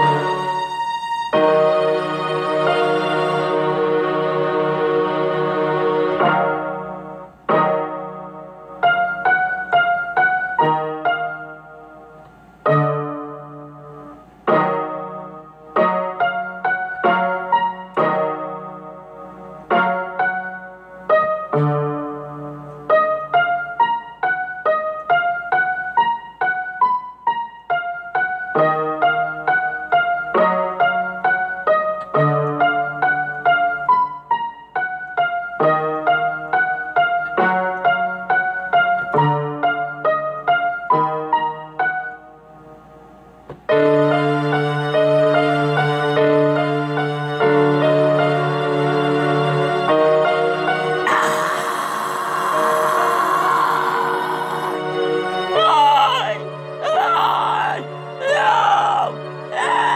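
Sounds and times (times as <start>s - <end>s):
solo piano music: 0.0s - 51.1s.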